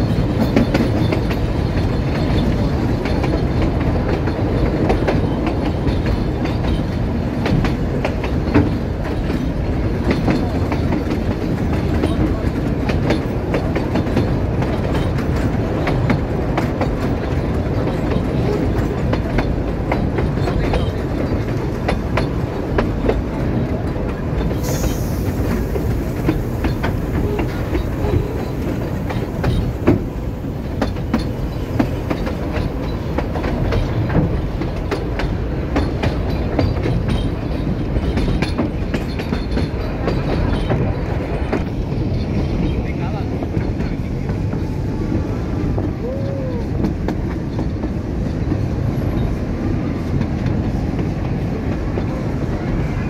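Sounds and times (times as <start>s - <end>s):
railway carriage rumbling on track: 0.0s - 53.0s
wheels clicking over rail joints: 0.0s - 53.0s.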